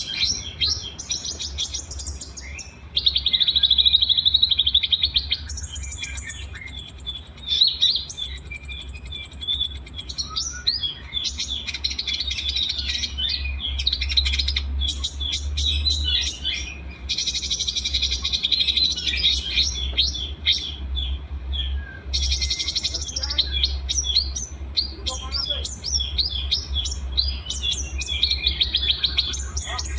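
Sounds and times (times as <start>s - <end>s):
songbirds chirping and trilling: 0.0s - 29.9s
steady low hum: 0.0s - 29.9s.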